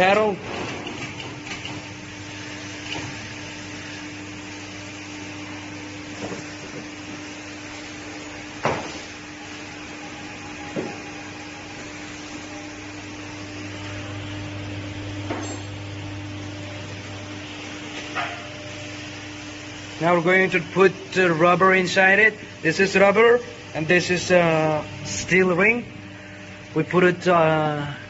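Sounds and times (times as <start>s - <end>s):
hydraulic pump motor humming: 0.0s - 28.0s.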